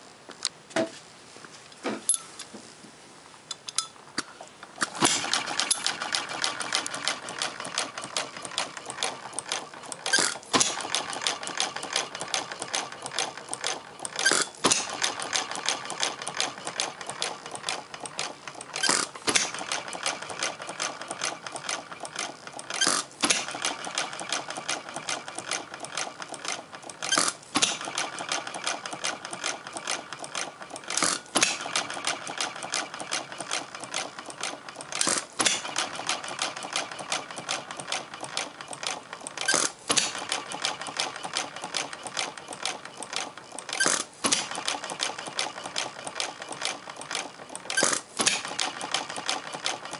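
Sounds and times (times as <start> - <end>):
flywheel ticking clatter: 5.0 - 49.9.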